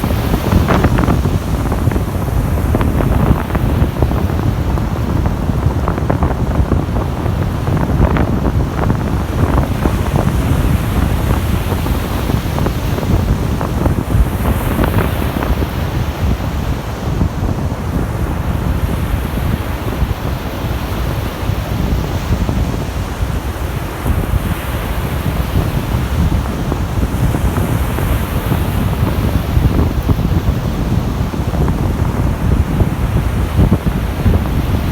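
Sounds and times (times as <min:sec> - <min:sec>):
waves washing onto shore: 0:00.0 - 0:34.9
wind buffeting microphone: 0:00.0 - 0:34.9.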